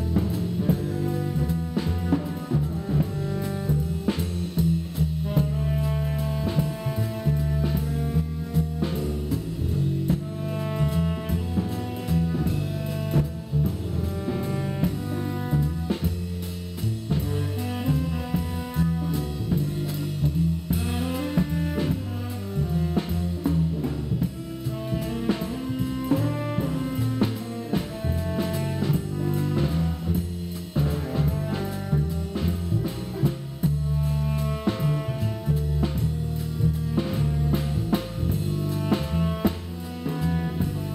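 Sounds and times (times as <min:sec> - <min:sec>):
drum kit beat: 0:00.0 - 0:40.9
jazz background music: 0:00.0 - 0:40.9.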